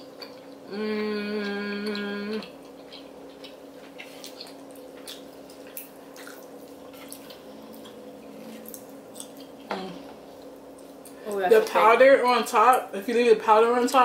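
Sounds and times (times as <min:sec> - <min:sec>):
people chewing with mouth clicks: 0:00.0 - 0:11.4
faint steady hum: 0:00.0 - 0:14.0.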